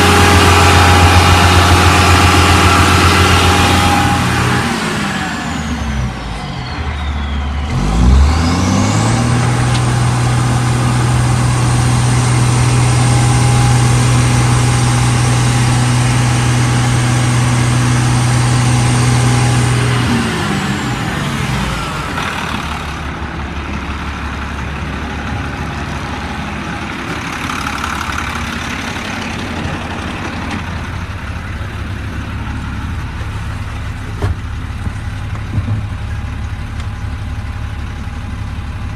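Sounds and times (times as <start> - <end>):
diesel engine revving and idling: 0.0 - 38.9.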